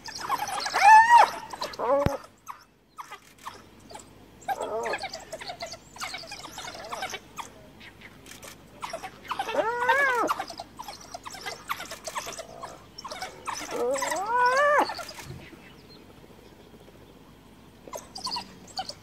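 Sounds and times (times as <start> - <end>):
hyena calling: 0.0 - 15.7
wild dogs twittering chirps: 0.0 - 16.8, 17.8 - 19.0.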